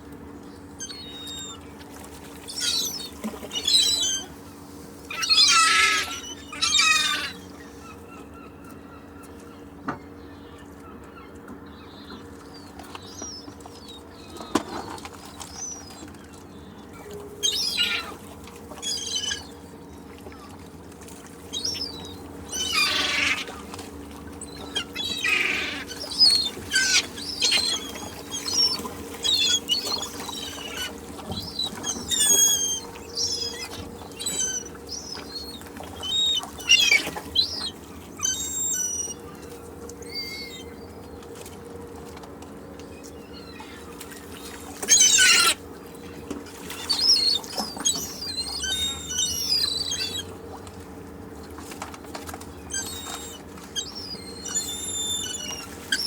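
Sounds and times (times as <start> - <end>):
steady low hum: 0.0 - 56.0
seagulls calling: 0.2 - 56.0.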